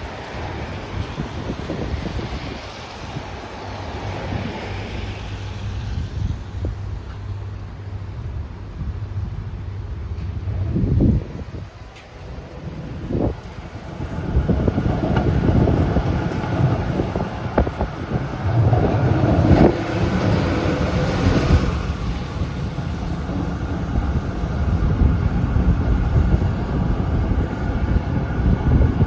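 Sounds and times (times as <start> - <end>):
tram wheels rumbling on rails: 0.0 - 29.0.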